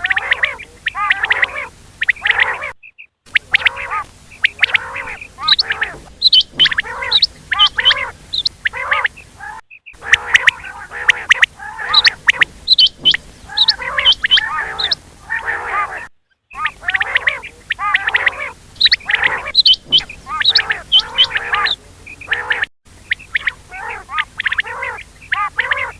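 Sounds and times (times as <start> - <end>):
quail calling: 0.0 - 25.9.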